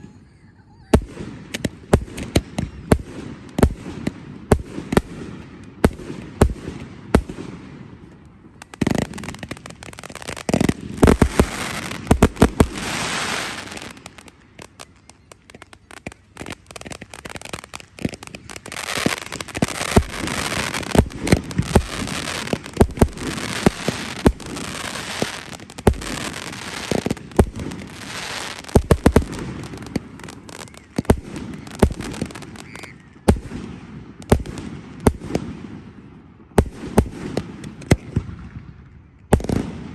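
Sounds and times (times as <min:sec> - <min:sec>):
firework hissing crackle: 0:00.9 - 0:35.9
firework bangs: 0:00.9 - 0:39.9.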